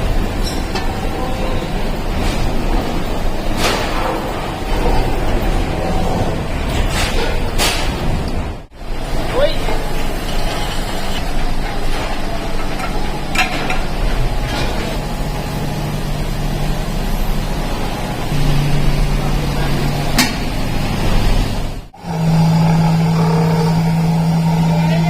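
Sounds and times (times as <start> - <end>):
different steady hum: 0.0 - 25.0
factory machinery humming: 0.0 - 25.0.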